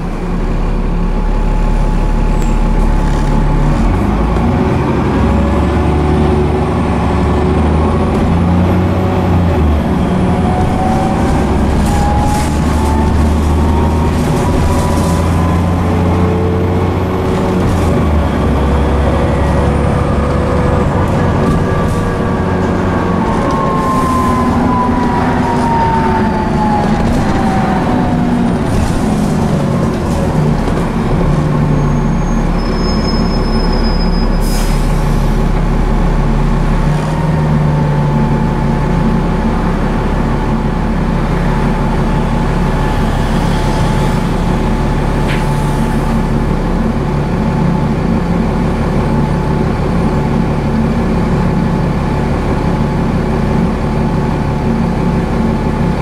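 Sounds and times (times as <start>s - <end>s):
drivetrain whine: 0.0s - 34.3s, 35.4s - 56.0s
deep engine drone: 0.0s - 56.0s.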